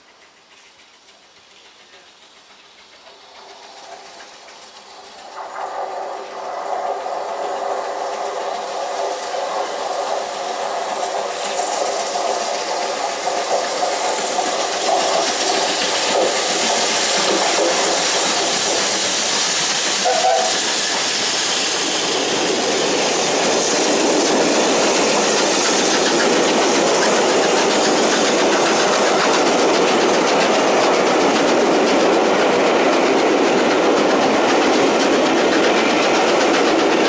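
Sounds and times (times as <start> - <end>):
train passing: 0.0 - 37.0.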